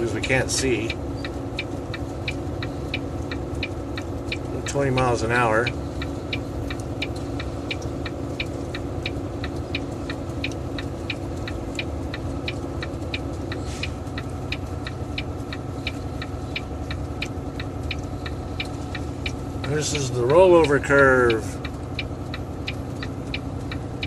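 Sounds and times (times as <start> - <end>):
diesel engine braking: 0.0 - 24.0
hazard flasher relay ticking: 0.0 - 24.0.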